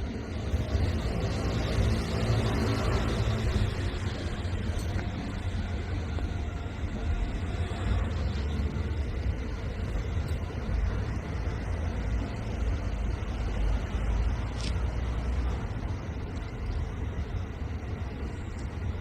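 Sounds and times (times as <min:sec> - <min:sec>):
low vehicle rumble: 0:00.0 - 0:19.0.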